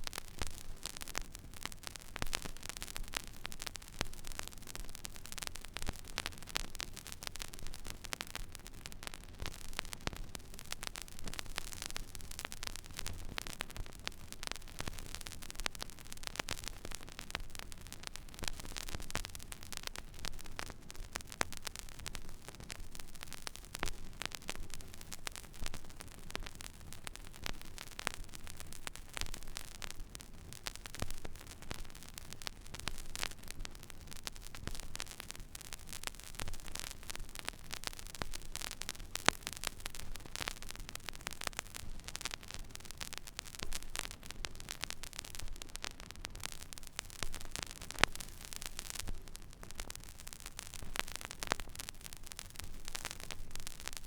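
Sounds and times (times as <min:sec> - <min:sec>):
vinyl crackle and pops: 0:00.0 - 0:54.0.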